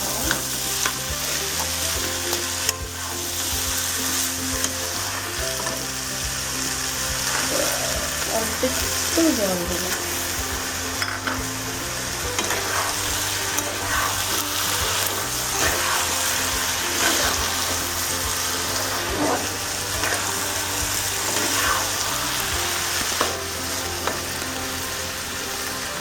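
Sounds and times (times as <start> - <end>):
spatula scraping a pan: 0.0 - 25.9
food sizzling in a pan: 0.0 - 26.0.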